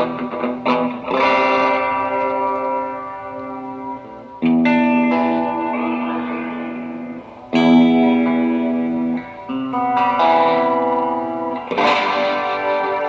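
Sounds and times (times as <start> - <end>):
electric guitar chords strummed: 0.0 - 13.0.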